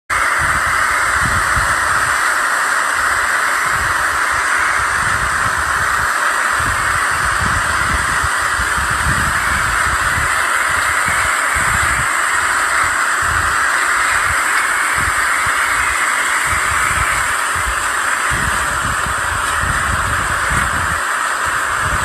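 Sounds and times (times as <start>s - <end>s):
wind buffeting microphone: 0.1s - 2.3s, 2.9s - 22.0s.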